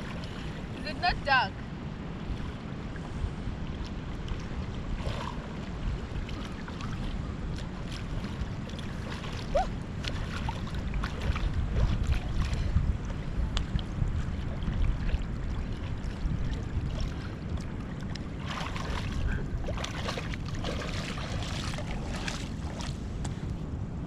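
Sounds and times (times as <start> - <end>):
water splashing and lapping: 0.0 - 23.6
wind buffeting microphone: 0.0 - 24.0.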